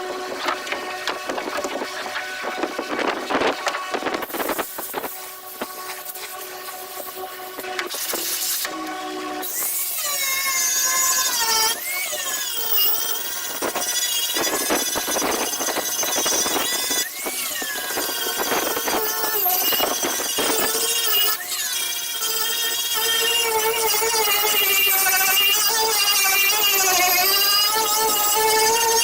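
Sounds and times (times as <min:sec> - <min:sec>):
power grinder whining: 0:00.0 - 0:29.0.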